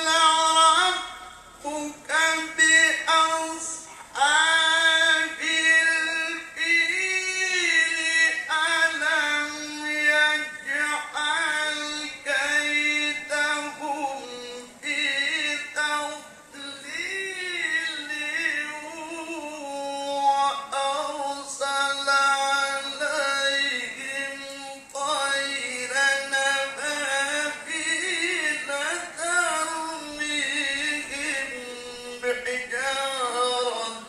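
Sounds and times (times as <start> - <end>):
man reciting melodically into microphone: 0.0 - 34.0.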